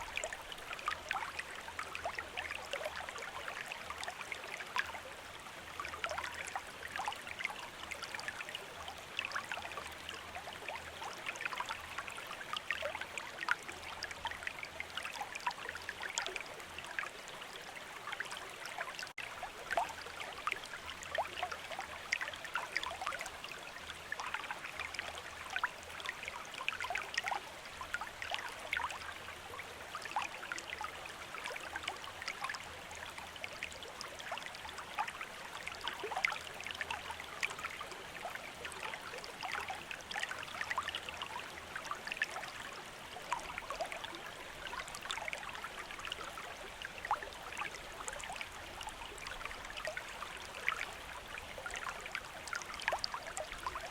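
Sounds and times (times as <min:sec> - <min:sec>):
stream babbling over stones: 0:00.0 - 0:53.9.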